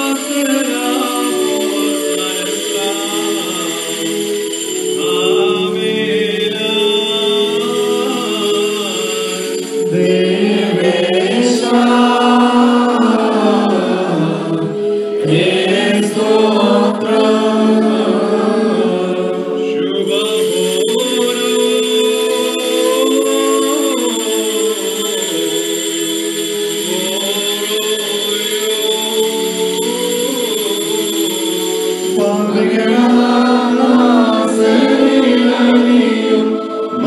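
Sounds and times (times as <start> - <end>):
choir chanting a hymn: 0.0 - 37.0.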